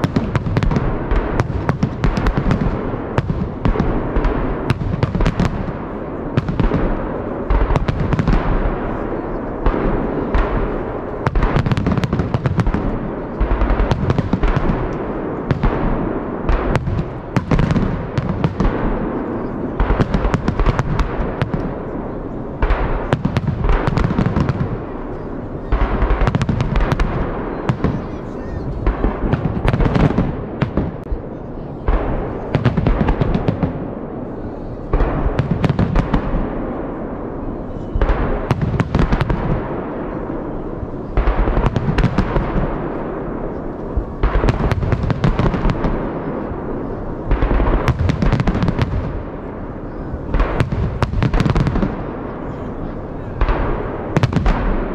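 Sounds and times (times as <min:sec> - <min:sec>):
firework bangs: 0:00.0 - 0:54.9
firework crackling and rumble: 0:00.0 - 0:54.9.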